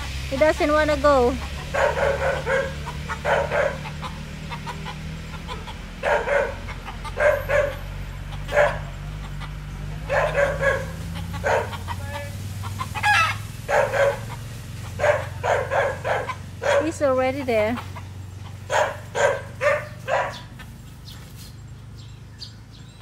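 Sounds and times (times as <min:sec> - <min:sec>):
chickens clucking: 0:00.0 - 0:22.8.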